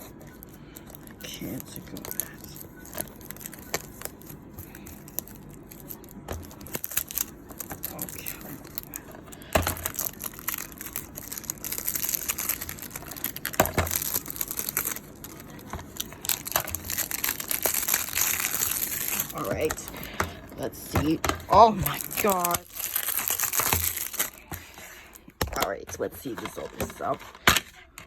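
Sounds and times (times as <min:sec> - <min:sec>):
plastic packaging crinkling and tearing: 0:00.0 - 0:27.9.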